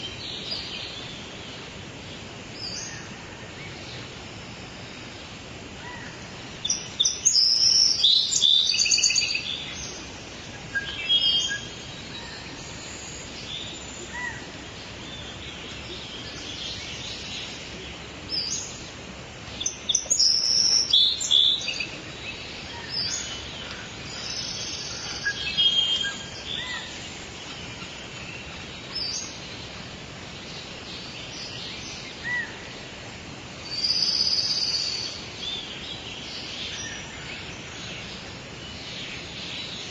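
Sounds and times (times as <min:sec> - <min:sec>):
background hiss: 0:00.0 - 0:39.9
songbirds singing: 0:00.0 - 0:39.9.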